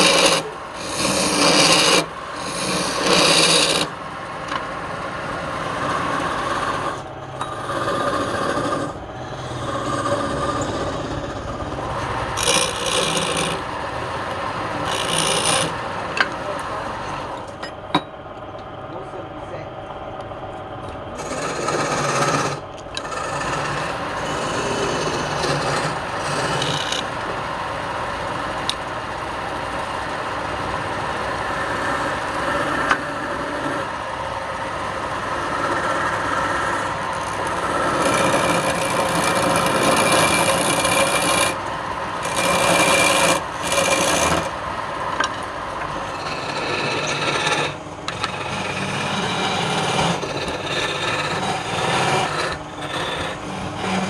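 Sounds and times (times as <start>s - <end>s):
lathe tool scraping wood: 0.0s - 17.5s, 21.1s - 54.0s.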